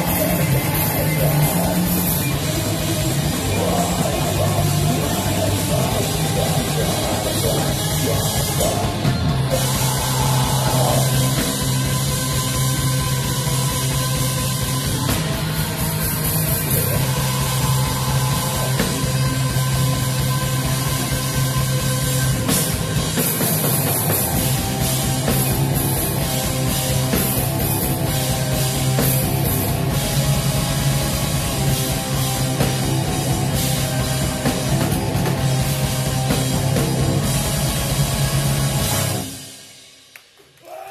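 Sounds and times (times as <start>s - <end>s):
distorted guitars: 0.0s - 39.9s.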